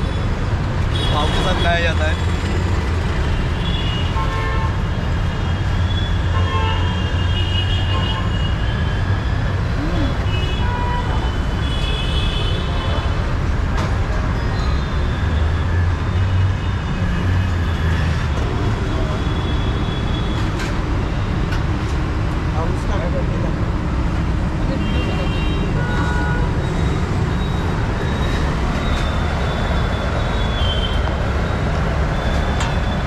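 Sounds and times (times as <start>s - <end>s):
heavy highway traffic rumble: 0.0s - 33.0s.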